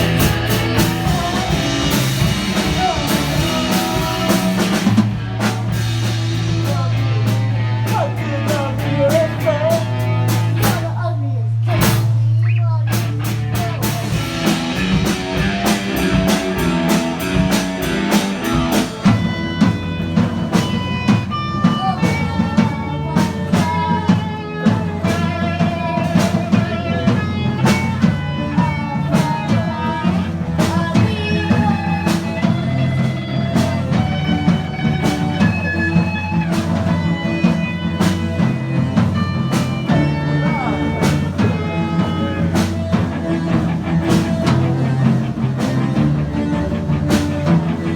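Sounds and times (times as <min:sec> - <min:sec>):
rock music with guitar and drums: 0:00.0 - 0:47.9.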